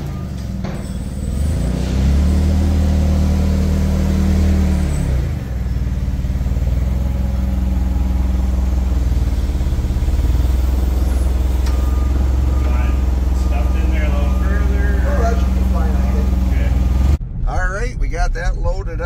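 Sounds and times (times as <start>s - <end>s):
forklift engine running: 0.0s - 17.3s.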